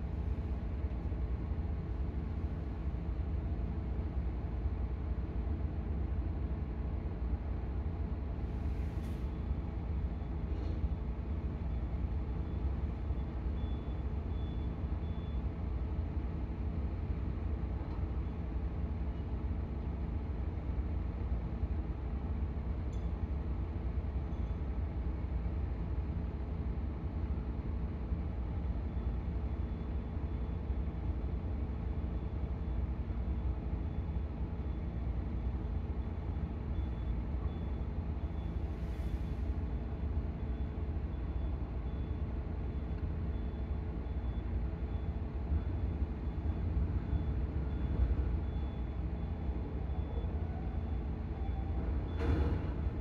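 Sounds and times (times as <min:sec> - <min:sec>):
heavy engine running: 0:00.0 - 0:53.0.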